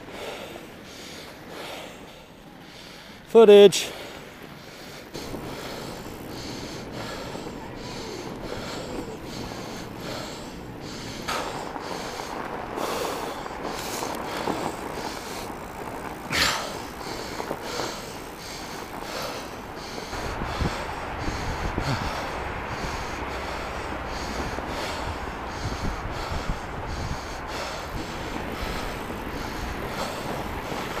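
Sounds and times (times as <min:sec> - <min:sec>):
bike tyres on packed snow: 0:00.0 - 0:31.0
hard breathing: 0:00.0 - 0:31.0.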